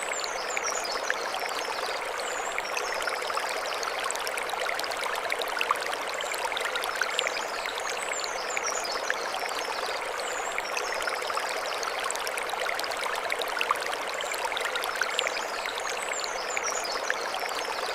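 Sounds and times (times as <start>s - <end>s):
stream flowing over stones: 0.0s - 17.9s.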